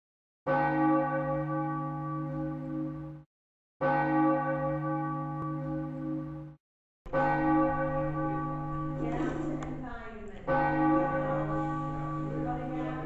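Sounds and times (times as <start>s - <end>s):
deep church bell tolling: 0.5s - 13.0s.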